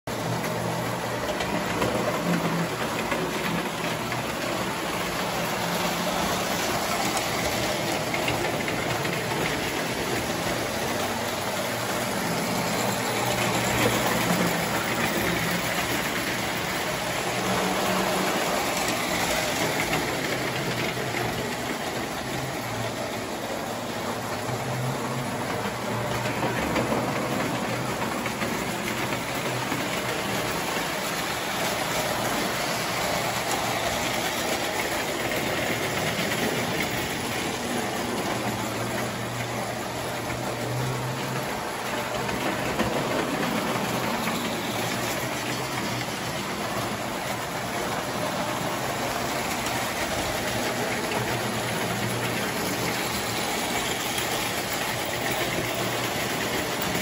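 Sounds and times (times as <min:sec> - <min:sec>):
toy train wheels clattering on rails: 0:00.1 - 0:57.0.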